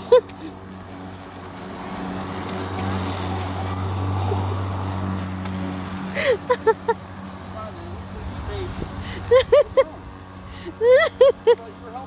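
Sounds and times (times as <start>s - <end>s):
electric lawn mower humming: 0.0s - 12.0s.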